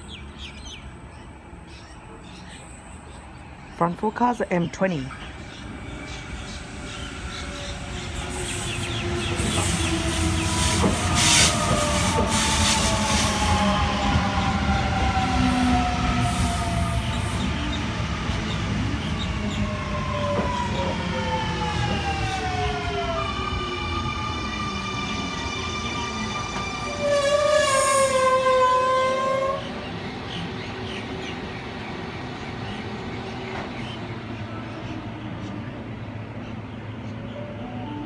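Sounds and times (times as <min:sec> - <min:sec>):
wheels rumbling on rail: 0:00.0 - 0:38.0.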